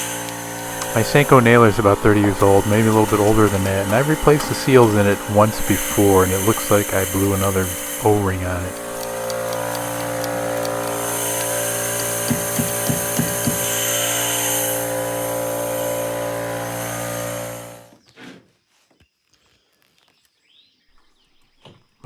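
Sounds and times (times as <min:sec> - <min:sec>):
air compressor running: 0:00.0 - 0:17.9.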